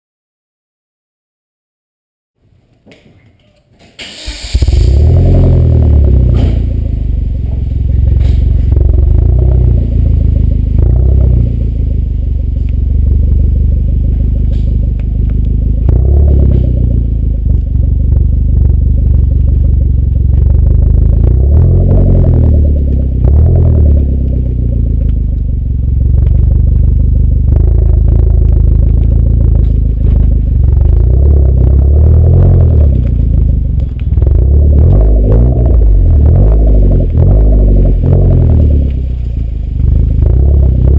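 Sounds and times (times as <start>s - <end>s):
car engine revving: 4.1s - 40.9s.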